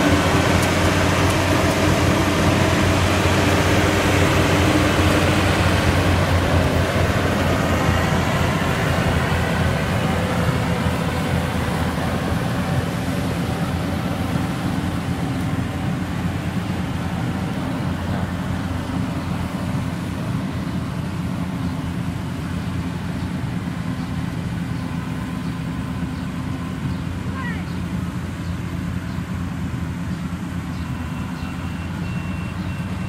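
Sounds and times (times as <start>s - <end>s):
combine harvester droning: 0.0s - 33.0s.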